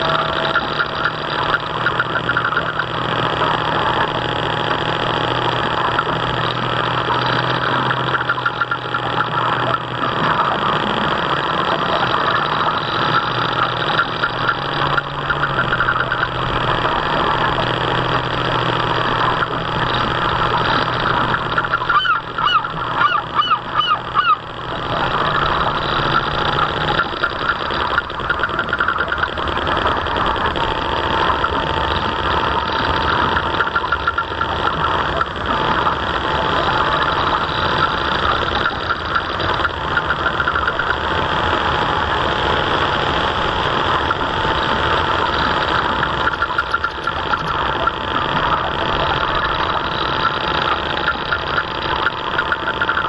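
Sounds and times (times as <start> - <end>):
geese honking: 0.0 - 30.5, 31.2 - 41.4, 43.8 - 53.0
model boat motor humming: 0.0 - 53.0.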